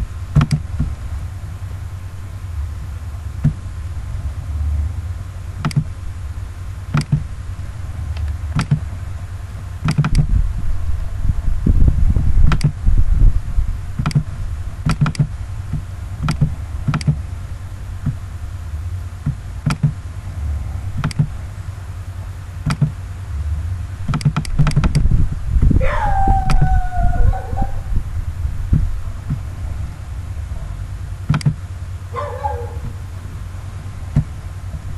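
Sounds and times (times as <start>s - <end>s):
low rumble: 0.0s - 34.9s.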